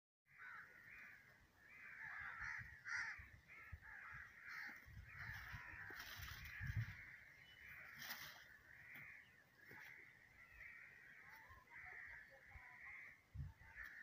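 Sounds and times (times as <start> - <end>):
birds calling: 0.3 - 14.0.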